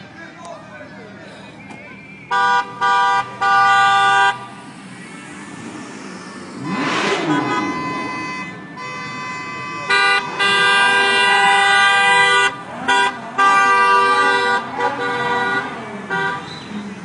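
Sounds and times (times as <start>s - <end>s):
car horns honking: 1.3s - 17.0s.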